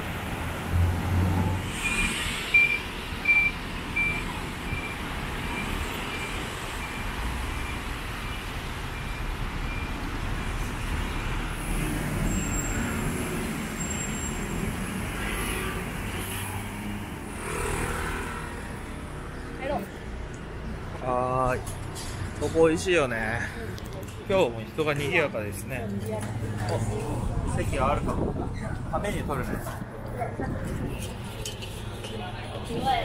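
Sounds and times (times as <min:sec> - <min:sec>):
cars buses and scooters passing: 0:00.0 - 0:33.0.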